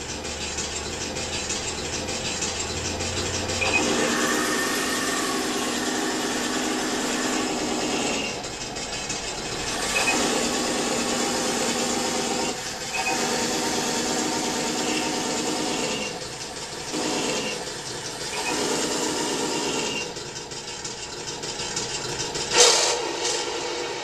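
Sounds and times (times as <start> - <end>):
toy tank engine sound effect: 0.0 - 24.0.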